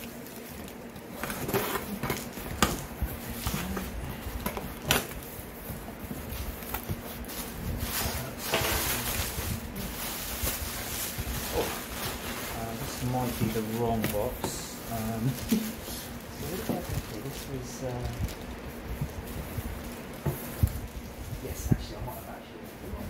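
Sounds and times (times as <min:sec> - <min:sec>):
bubble wrap rustling: 0:00.0 - 0:23.0.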